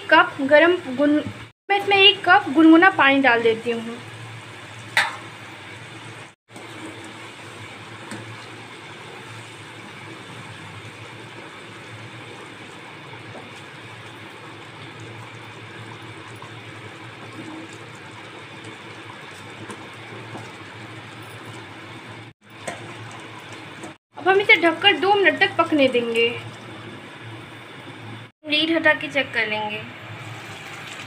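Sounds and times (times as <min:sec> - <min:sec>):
curry simmering and sizzling: 0:00.0 - 0:28.3, 0:29.9 - 0:31.0.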